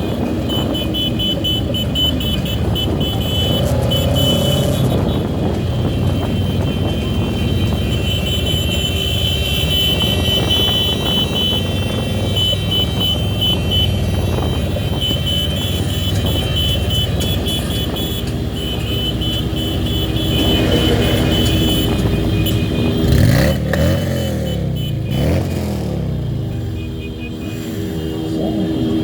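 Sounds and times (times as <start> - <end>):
motorcycle engine revving: 0.0 - 29.0
motorcycle engines running: 0.0 - 29.0.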